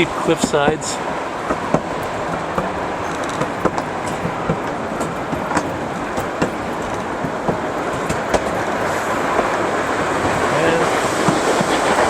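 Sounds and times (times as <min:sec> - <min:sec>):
train rumbling along track: 0:00.0 - 0:12.0
wheels clicking over rail joints: 0:00.0 - 0:12.0.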